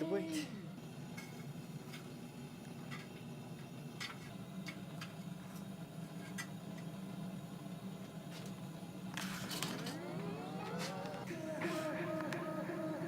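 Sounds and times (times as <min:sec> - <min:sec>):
gas forge humming: 0:00.0 - 0:13.0.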